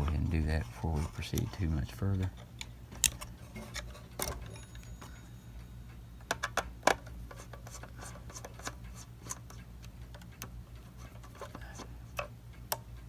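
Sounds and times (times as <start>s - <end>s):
light metallic clicks and rubbing: 0.0s - 4.8s, 6.3s - 12.3s.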